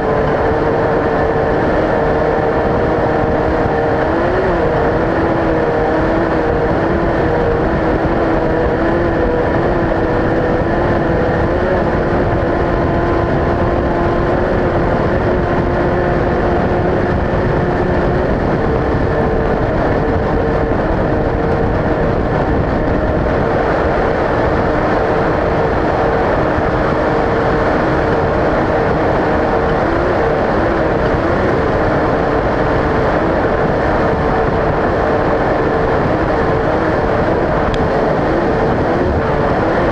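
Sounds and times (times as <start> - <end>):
race vehicle engine under load: 0.0 - 39.9
rumble of driving noise: 0.0 - 39.9.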